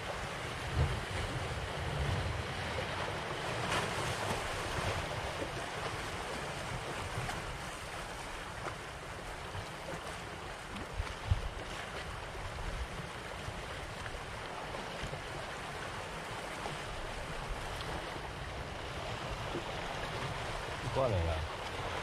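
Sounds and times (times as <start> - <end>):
waves splashing on concrete blocks: 0.0 - 22.0.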